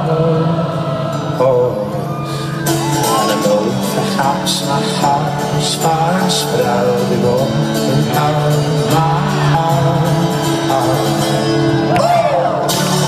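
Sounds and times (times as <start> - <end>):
person singing: 0.0 - 13.0
strummed acoustic guitars: 0.0 - 13.0.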